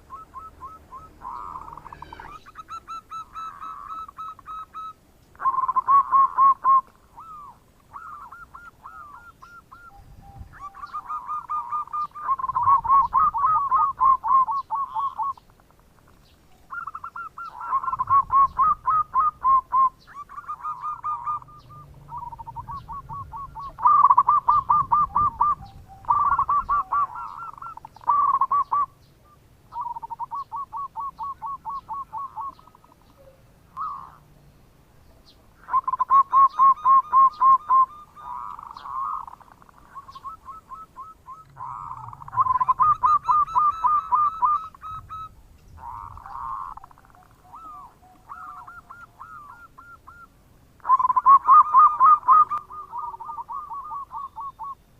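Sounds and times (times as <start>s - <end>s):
doves cooing: 0.0s - 34.4s, 35.1s - 54.9s.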